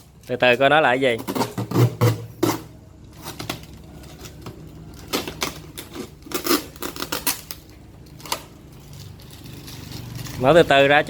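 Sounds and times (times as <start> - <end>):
knife cutting packing tape: 1.2 - 10.8.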